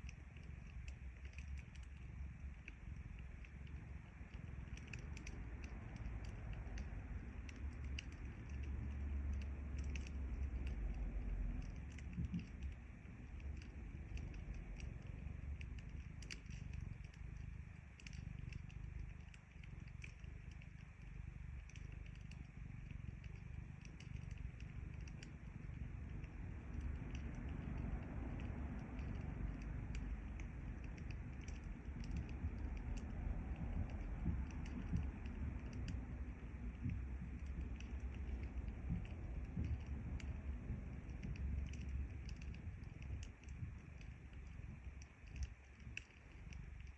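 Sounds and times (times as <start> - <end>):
cat purring: 0.0 - 46.9
wood fire crackling: 0.0 - 46.9.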